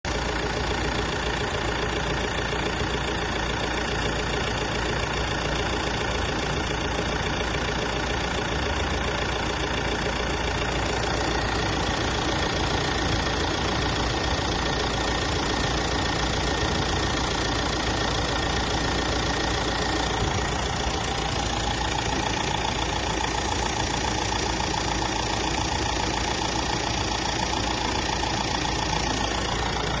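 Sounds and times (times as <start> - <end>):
engine running steadily: 0.1 - 30.0.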